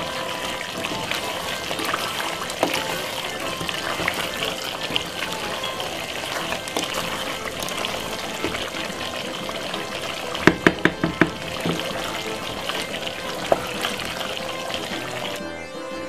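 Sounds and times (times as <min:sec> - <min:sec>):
chicken sizzling in a pot: 0:00.0 - 0:15.4
spoon stirring: 0:00.0 - 0:15.4.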